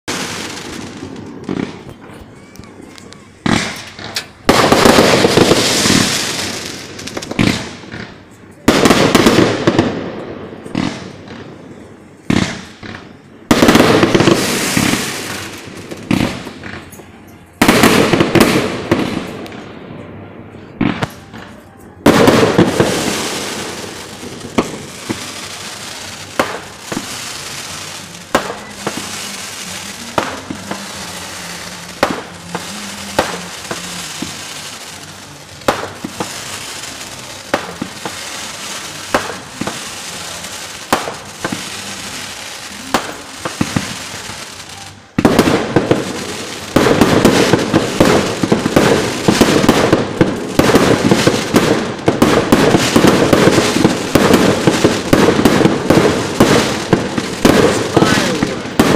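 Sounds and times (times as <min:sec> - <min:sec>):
fireworks crackling barrage: 0:00.0 - 0:58.9
fireworks bangs: 0:00.1 - 0:58.9.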